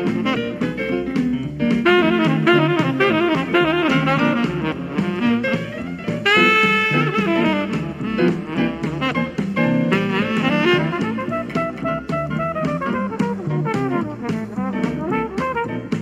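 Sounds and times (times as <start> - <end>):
drum kit: 0.0 - 16.0
jazz saxophone lead: 0.0 - 16.0.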